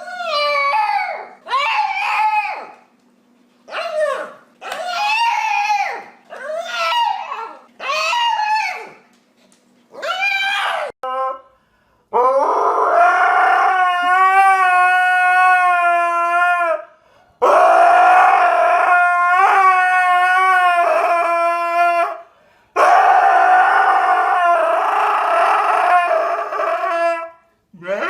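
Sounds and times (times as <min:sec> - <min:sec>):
dog howling: 0:00.0 - 0:02.8, 0:03.7 - 0:09.0, 0:10.0 - 0:11.4, 0:12.2 - 0:22.2, 0:22.8 - 0:28.0.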